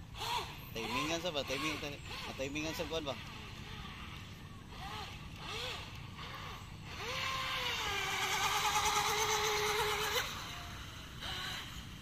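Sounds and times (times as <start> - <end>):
electric boat motor whine: 0.0 - 12.0.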